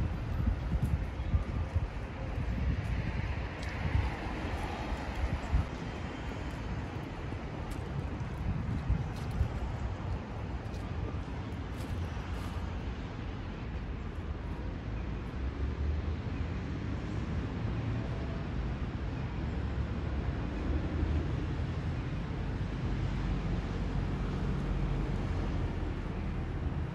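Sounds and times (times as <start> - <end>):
low rumble of city traffic: 0.0 - 26.9.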